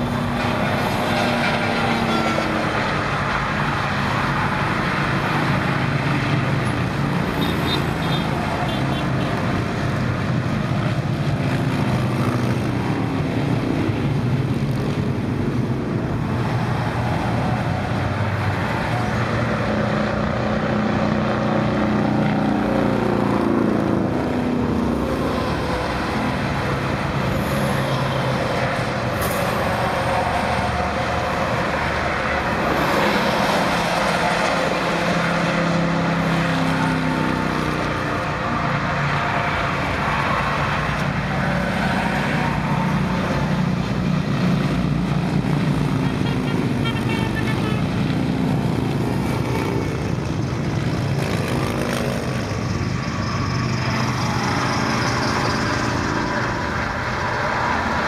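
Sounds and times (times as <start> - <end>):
cars passing: 0.0 - 58.0
motorcycles passing: 0.0 - 58.0
rush of tyre noise: 0.0 - 58.0
trucks passing: 0.0 - 58.0.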